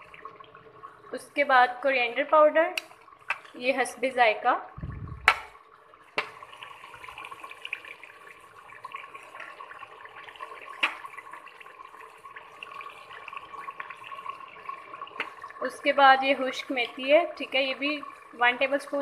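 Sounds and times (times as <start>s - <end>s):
oil sizzling in a pot: 0.0s - 4.5s, 5.2s - 19.0s.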